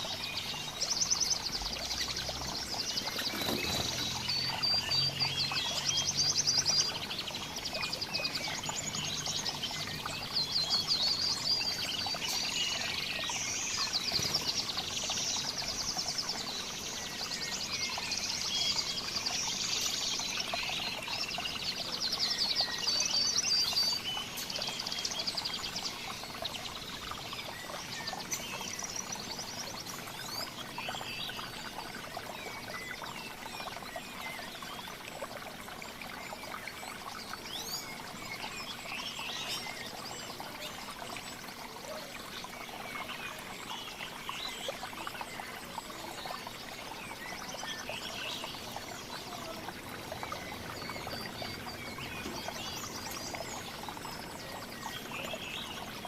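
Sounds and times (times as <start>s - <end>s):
songbirds chirping and calling: 0.0s - 56.0s.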